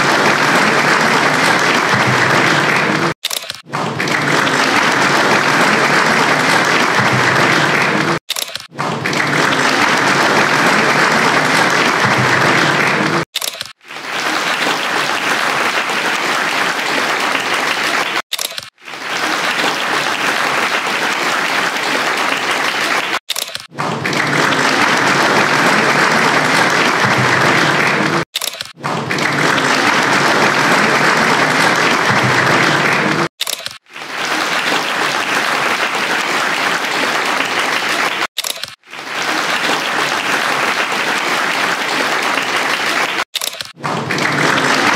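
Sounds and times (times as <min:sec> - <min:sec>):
audience applauding: 0:00.0 - 0:44.9.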